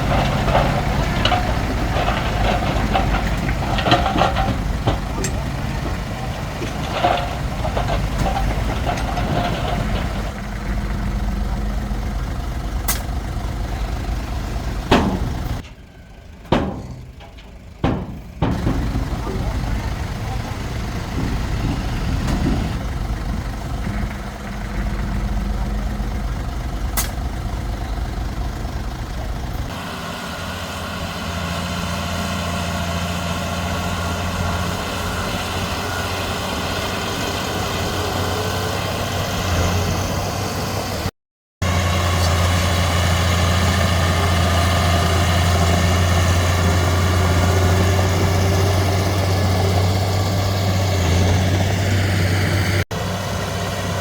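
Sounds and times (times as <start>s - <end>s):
heavy diesel machinery rumbling: 0.0s - 54.0s.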